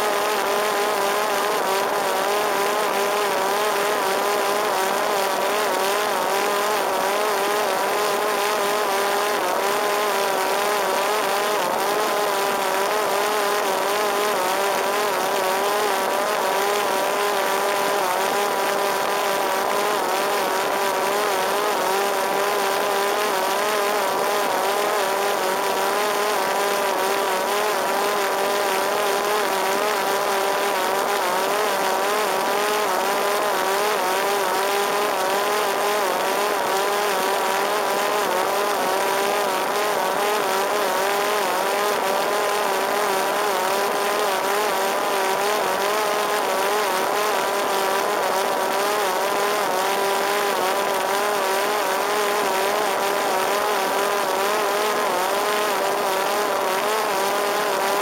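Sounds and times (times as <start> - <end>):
drone motor whine: 0.0 - 58.0.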